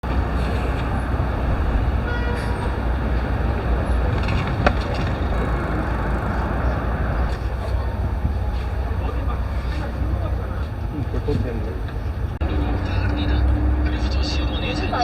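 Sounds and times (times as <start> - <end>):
road traffic rumble: 0.0 - 12.6.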